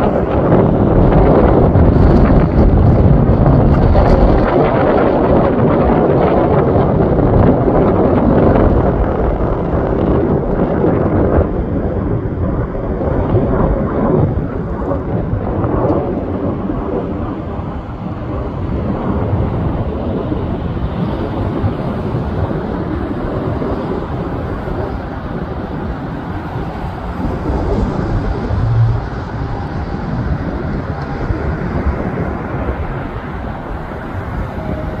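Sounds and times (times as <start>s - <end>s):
jet aircraft rumble: 0.0s - 35.0s
wind buffeting microphone: 0.0s - 35.0s.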